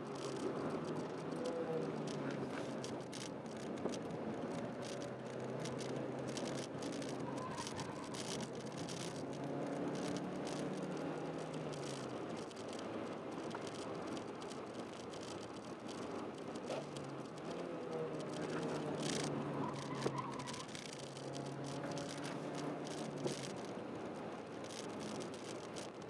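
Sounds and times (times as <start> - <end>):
road and tyre noise: 0.0 - 26.0.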